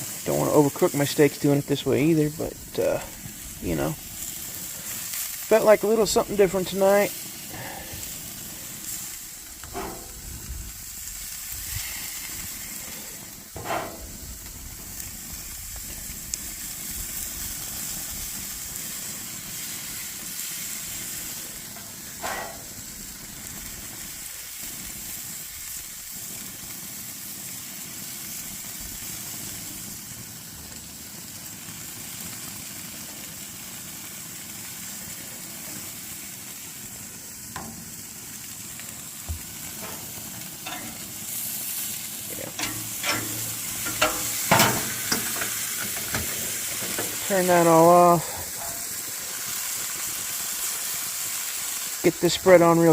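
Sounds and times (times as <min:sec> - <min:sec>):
glaze crackling on heat: 0:00.0 - 0:52.9
steaks sizzling on a grill: 0:00.0 - 0:52.9.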